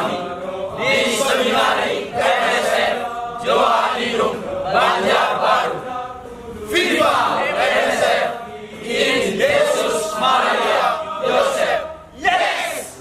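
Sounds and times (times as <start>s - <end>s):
men singing a hymn: 0.0s - 13.0s.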